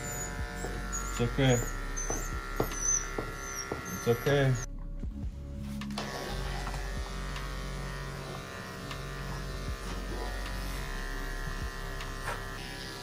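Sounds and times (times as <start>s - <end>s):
electric clippers buzzing: 0.0s - 4.7s, 5.9s - 13.0s.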